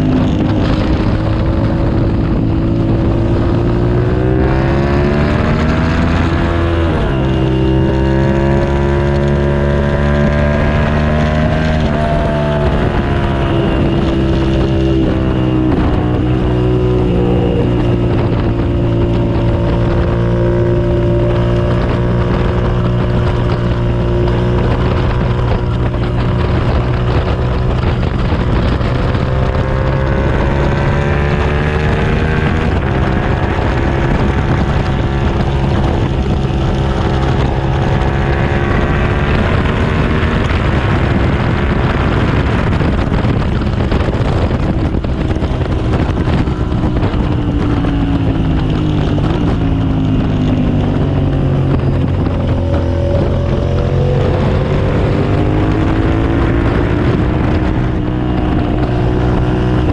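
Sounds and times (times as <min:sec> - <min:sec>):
motorcycle engine revving: 0:00.0 - 0:59.9
wind on microphone: 0:00.0 - 0:59.9.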